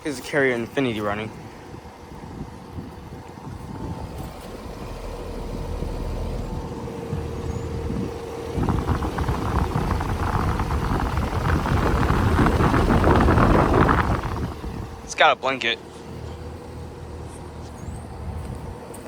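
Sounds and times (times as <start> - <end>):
air conditioner unit humming: 0.0 - 19.0
condenser fan rushing air: 0.0 - 19.0.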